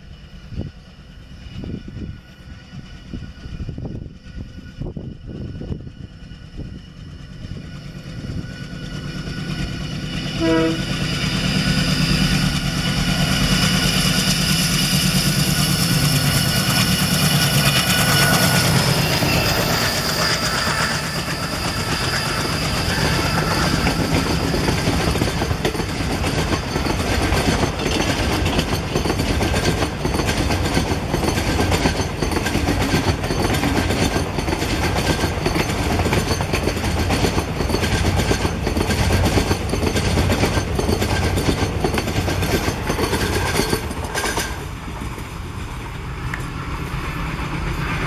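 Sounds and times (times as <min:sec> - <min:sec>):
train wheels clickety-clack: 0:00.0 - 0:48.0.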